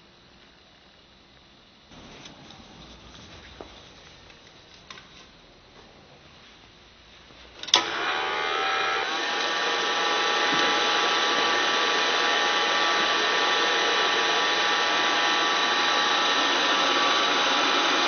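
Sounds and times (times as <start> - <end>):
hair dryer fan whirring: 1.9 - 6.5, 7.4 - 18.0.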